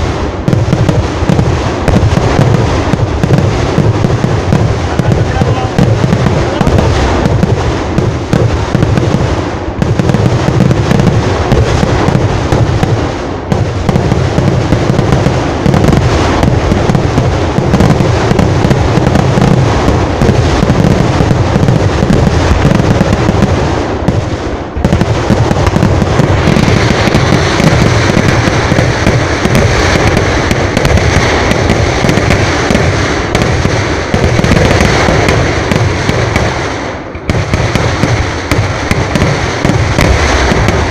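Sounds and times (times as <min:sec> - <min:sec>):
firecrackers and fireworks crackling: 0:00.0 - 0:40.9.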